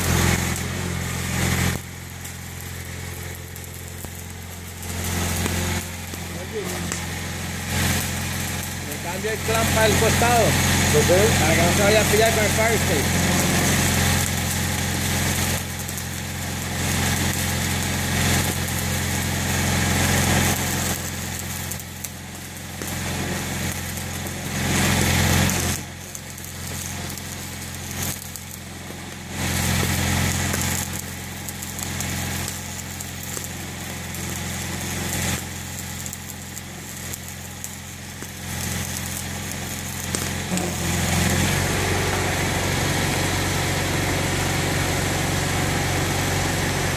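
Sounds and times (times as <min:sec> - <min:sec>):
welding arc crackling: 0:00.0 - 0:46.9.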